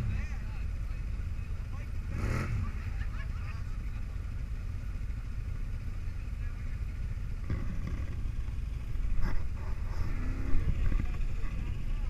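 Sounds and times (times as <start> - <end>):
atv engines idling: 0.0 - 12.0.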